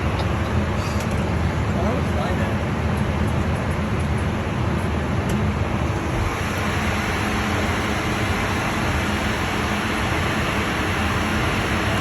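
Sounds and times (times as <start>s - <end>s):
jet cabin engine and airflow noise: 0.0s - 12.0s.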